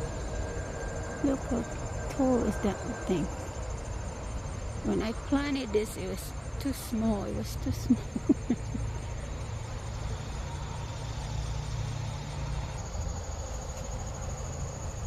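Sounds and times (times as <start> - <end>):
high-pitched insect trill: 0.0 - 15.0
low steady rumble: 0.0 - 15.0.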